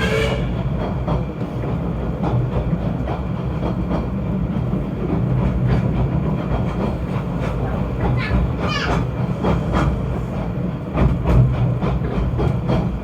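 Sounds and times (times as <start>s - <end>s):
train rumbling with clatter: 0.0s - 13.0s.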